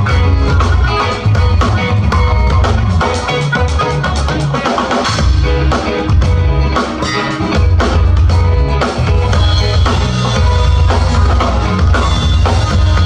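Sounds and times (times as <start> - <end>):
drum kit beat: 0.0 - 13.0
heavy bass line: 0.0 - 13.0
live band playing pop-rock: 0.0 - 13.0.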